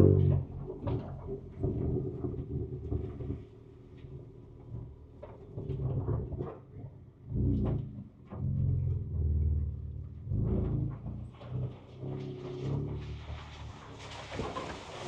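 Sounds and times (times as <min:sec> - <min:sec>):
truck knocks and rattles: 0:00.0 - 0:15.0.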